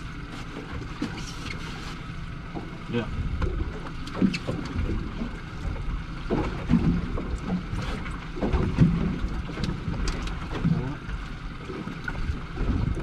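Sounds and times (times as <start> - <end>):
low rumble: 2.4 - 13.0.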